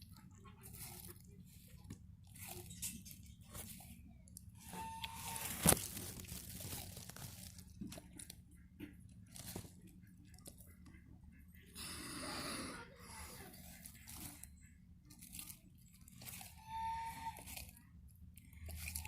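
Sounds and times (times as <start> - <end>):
tortoise crunching food: 0.0 - 19.0.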